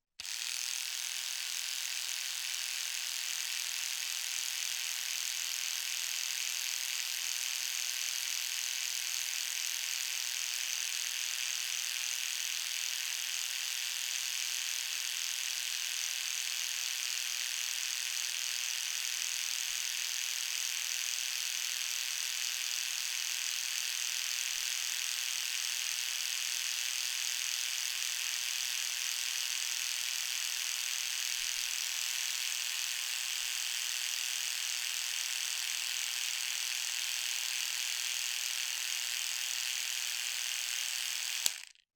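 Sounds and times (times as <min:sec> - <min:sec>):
electric toothbrush buzzing: 0:00.2 - 0:41.8.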